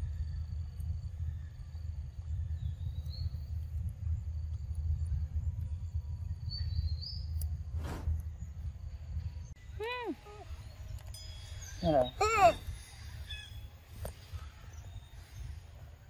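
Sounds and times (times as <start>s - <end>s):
faint insect chirping: 0.0s - 16.0s
steady low rumble: 0.0s - 16.0s.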